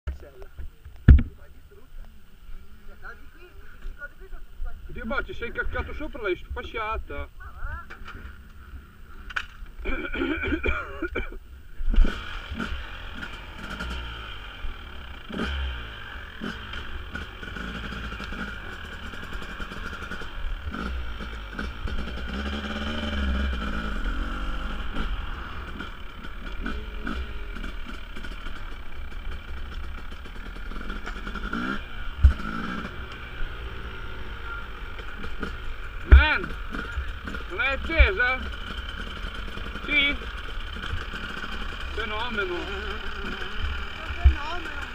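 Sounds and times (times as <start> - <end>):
dirt bike engines revving: 0.1 - 44.9.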